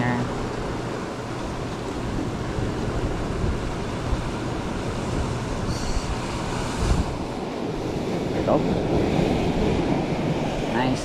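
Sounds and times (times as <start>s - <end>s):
surf washing: 0.0s - 11.0s
wind buffeting microphone: 0.0s - 11.0s.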